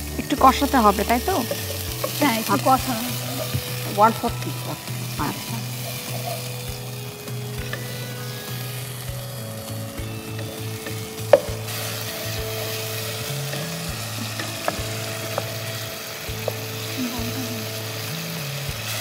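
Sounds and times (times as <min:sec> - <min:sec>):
masala sizzling in a pot: 0:00.0 - 0:19.0.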